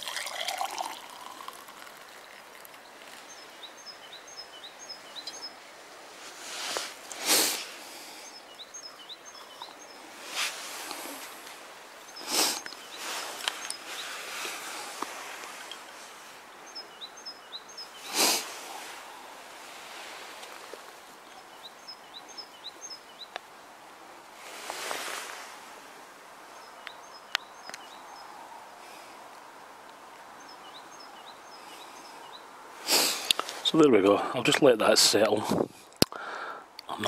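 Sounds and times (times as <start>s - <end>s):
small birds chirping: 0.1s - 23.8s, 26.4s - 37.0s.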